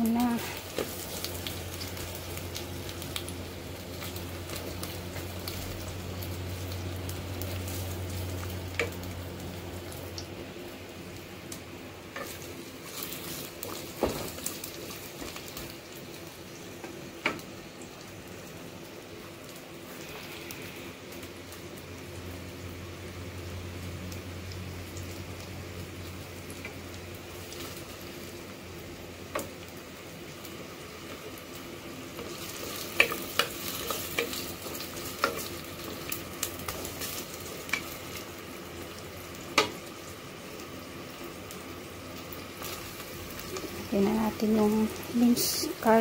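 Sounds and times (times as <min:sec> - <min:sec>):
shallots sizzling in oil: 0:00.0 - 0:46.0.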